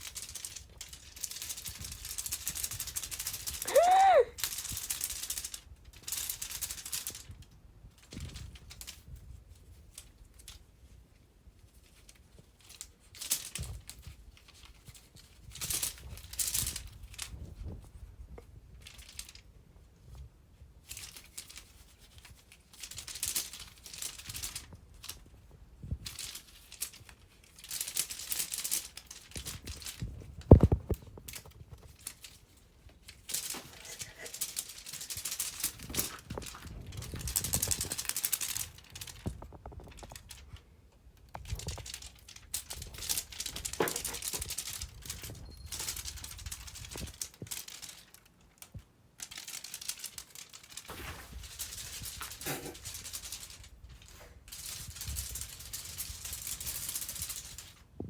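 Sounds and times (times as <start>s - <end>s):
crinkling and rustling: 0.0s - 58.0s.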